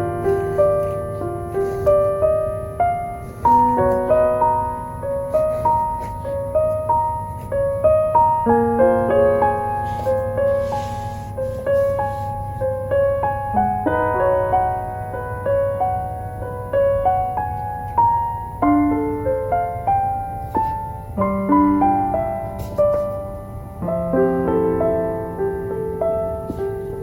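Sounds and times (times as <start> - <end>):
soft piano music: 0.0 - 27.0.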